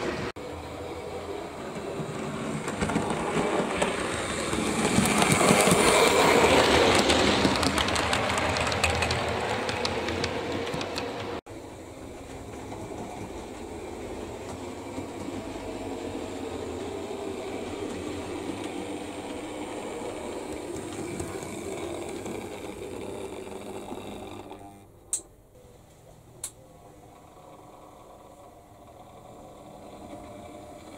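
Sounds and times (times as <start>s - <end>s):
model train wheels rumbling and clicking: 1.0s - 25.2s, 26.4s - 30.9s.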